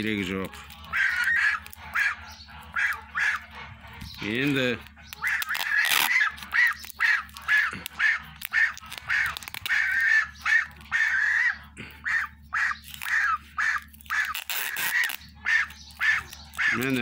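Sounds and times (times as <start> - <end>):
gosling peeping: 0.0 - 17.0.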